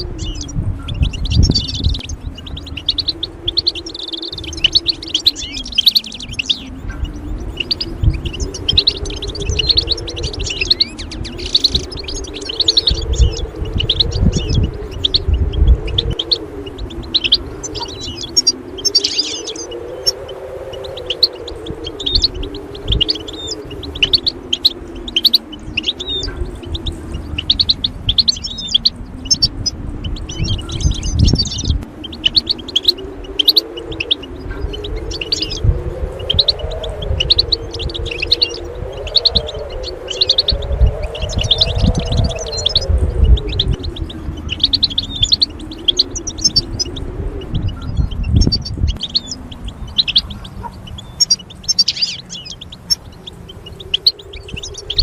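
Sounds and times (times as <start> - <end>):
songbirds chirping and twittering: 0.0 - 55.0
wavering synthesizer drone: 0.0 - 55.0.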